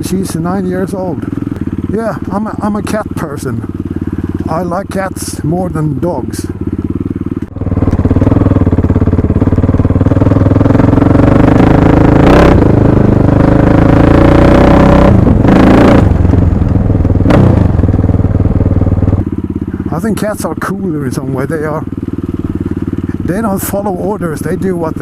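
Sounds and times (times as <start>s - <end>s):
motorcycle engine running loudly: 0.0s - 25.0s.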